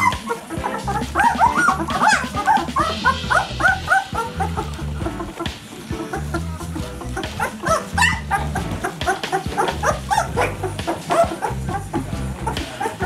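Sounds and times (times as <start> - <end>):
background music with bass line: 0.0 - 13.0
puppies squeaking and whimpering: 0.0 - 13.0.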